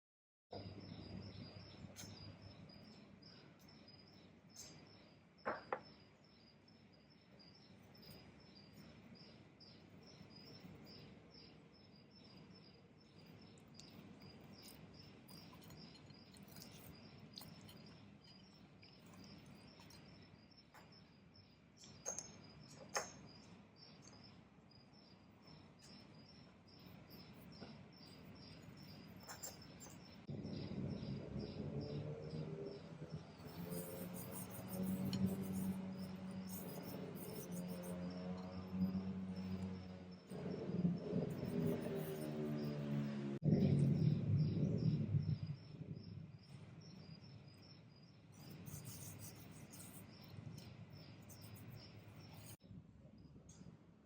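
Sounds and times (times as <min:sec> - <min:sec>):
cricket chirping: 0:00.6 - 0:32.0, 0:32.8 - 0:52.6.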